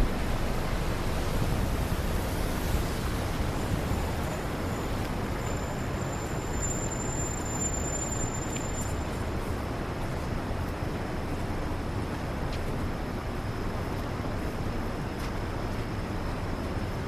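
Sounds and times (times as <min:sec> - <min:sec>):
city traffic in rain: 0:00.0 - 0:17.0.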